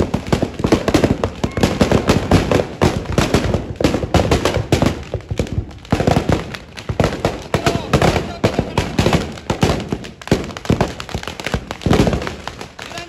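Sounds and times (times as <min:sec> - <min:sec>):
firecrackers bursting: 0:00.0 - 0:13.0.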